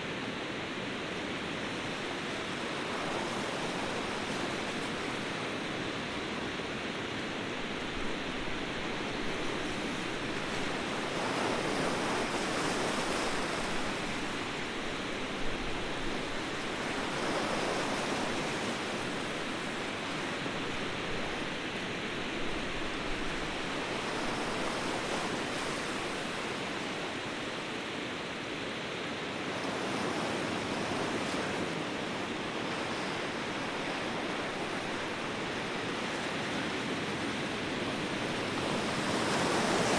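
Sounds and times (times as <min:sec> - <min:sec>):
waves breaking: 0:01.3 - 0:39.9.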